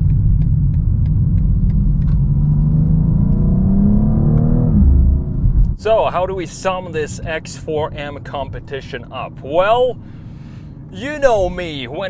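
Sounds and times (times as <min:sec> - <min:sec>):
turn signal ticking: 0:00.0 - 0:03.5, 0:05.6 - 0:12.0
car engine rumbling: 0:00.0 - 0:12.0.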